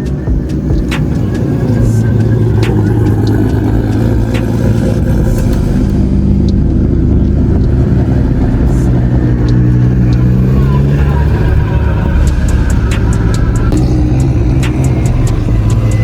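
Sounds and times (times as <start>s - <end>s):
car engines droning: 0.0s - 16.0s.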